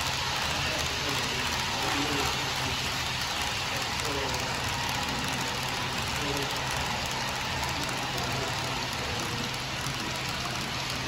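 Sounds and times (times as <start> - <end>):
model train rolling on track: 0.0 - 11.0.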